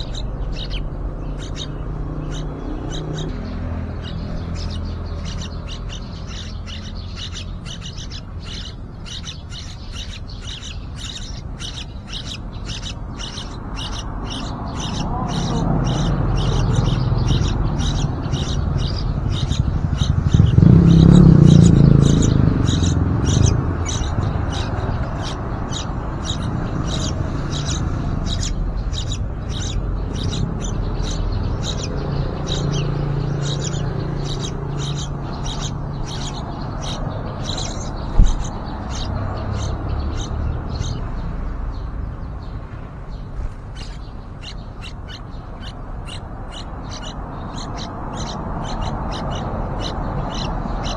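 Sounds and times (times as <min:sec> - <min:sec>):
chicks begging chirps: 0:00.0 - 0:50.9.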